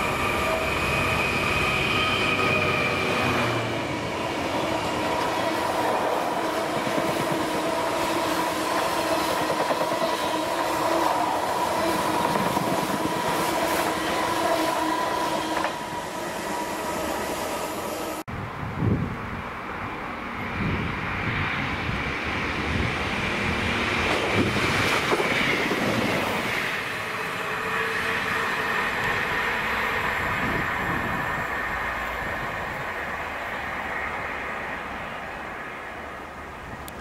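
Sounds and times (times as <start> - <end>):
diesel train passing: 0.0 - 37.0.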